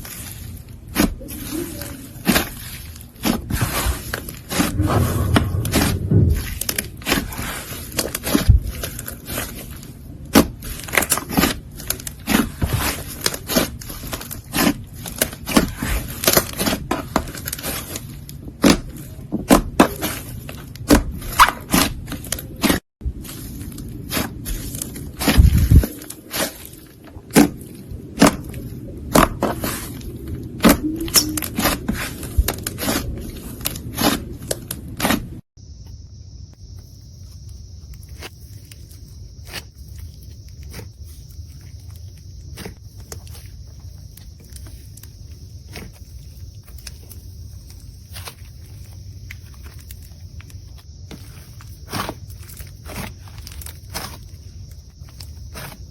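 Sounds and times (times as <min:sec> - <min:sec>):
slime scraping: 0:00.0 - 0:35.4, 0:37.4 - 0:55.9.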